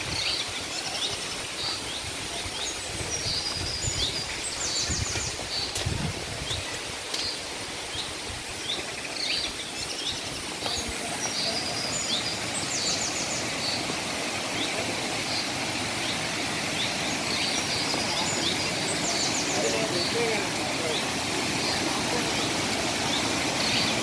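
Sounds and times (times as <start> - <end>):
small birds chirping and trilling: 0.0 - 24.0
waterfall rushing: 0.0 - 24.0.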